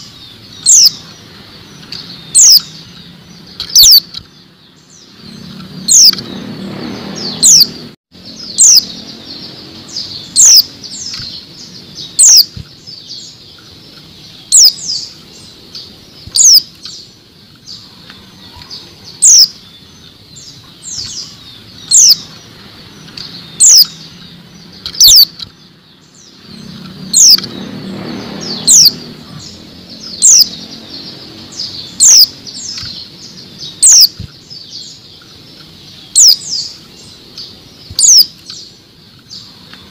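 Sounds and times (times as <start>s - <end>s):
bird chirping high falling call: 0.0s - 39.9s.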